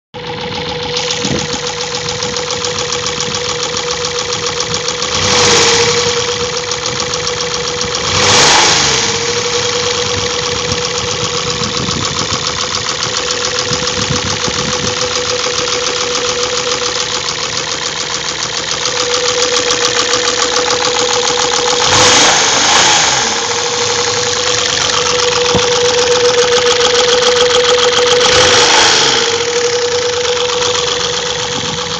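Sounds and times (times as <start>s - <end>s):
engine idling with rattling knock: 0.2s - 31.9s
engine revving: 0.5s - 31.9s.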